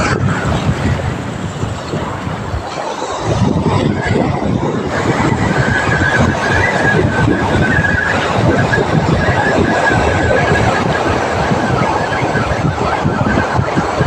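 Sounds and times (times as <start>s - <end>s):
surf: 0.0s - 14.0s
thin steady whine: 0.0s - 14.0s
wind: 0.0s - 14.0s.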